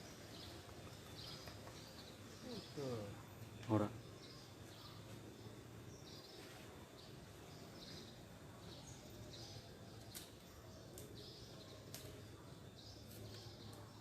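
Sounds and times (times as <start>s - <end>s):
faint chirping: 0.0s - 14.0s.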